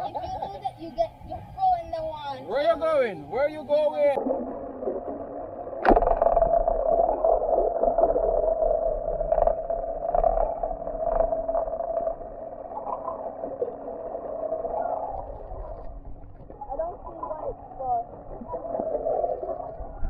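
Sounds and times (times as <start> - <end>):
boat engine droning underwater: 0.7 - 20.0.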